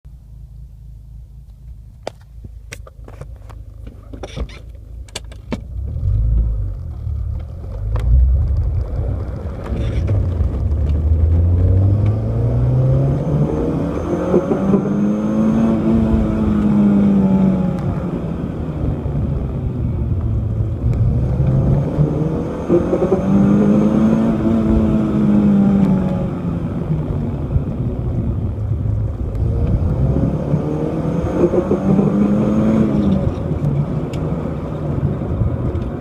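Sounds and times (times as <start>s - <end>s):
car engine revving up: 5.7s - 36.0s.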